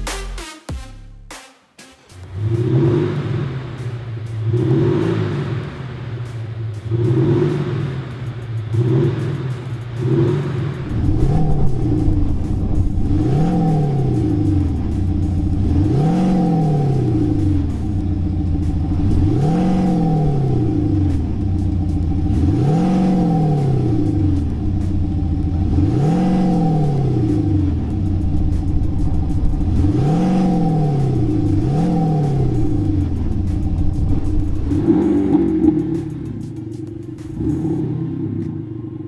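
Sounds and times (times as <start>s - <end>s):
steady hum: 2.2s - 37.8s
artificial exhaust note revving: 2.2s - 39.0s.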